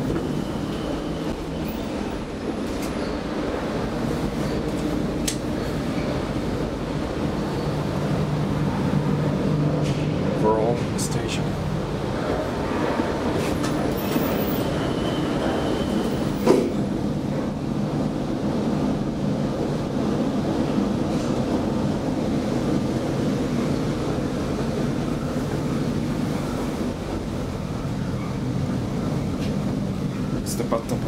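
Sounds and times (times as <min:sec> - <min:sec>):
elevator car running with hum: 0:00.0 - 0:31.0.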